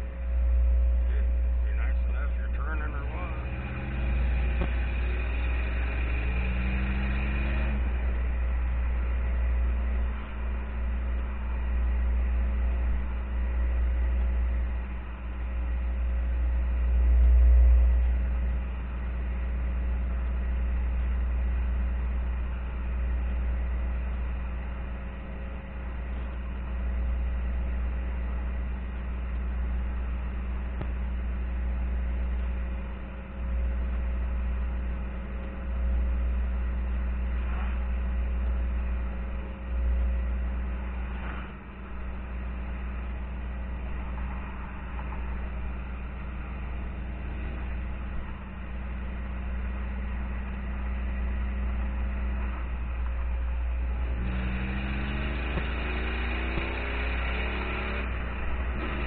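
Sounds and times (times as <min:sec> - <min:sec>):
car engine from inside cabin: 0:00.0 - 0:59.0
road noise: 0:00.0 - 0:59.0.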